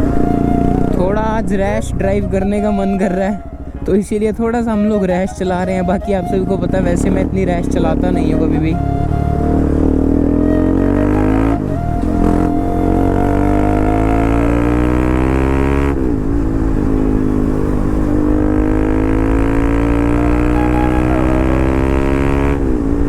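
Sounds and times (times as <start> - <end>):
gear upshifts: 0.0 - 23.0
motorcycle engine accelerating: 0.0 - 23.0.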